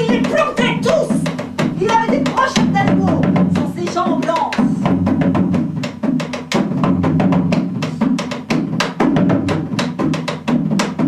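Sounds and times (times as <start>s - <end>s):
hand drum fast rhythm: 0.0s - 11.0s.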